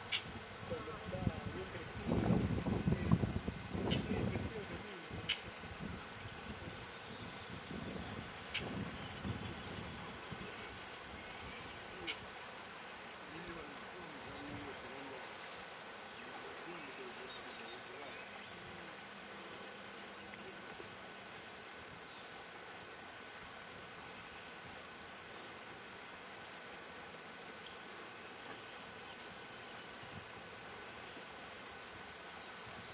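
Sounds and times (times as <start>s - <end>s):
insect chorus drone: 0.0s - 32.9s.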